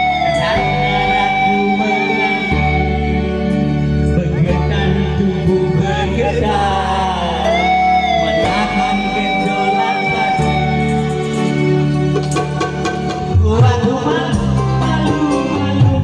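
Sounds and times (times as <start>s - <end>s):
person singing: 0.0s - 3.2s, 4.2s - 16.0s
plucked guitar: 0.0s - 16.0s.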